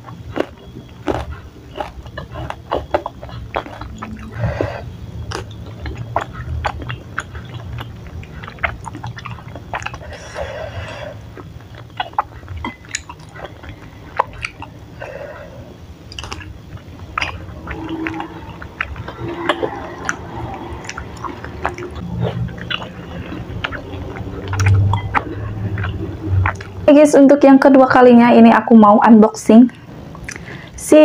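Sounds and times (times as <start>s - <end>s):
close chewing with wet mouth sounds: 0.0s - 27.0s, 29.7s - 30.8s.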